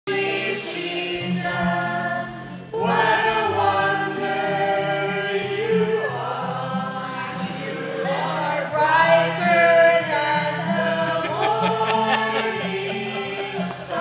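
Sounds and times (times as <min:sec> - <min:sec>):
group of people singing: 0:00.1 - 0:14.0.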